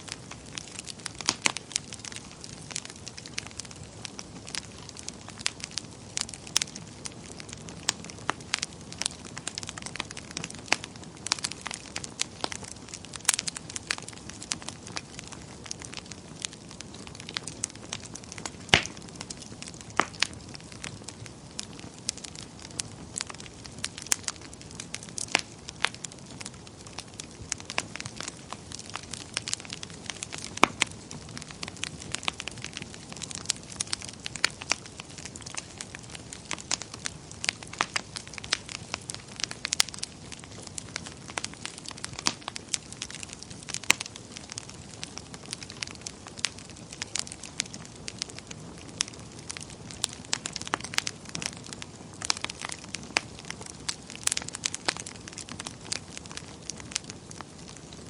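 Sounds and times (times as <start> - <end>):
burning logs crackling and popping: 0.0 - 58.0.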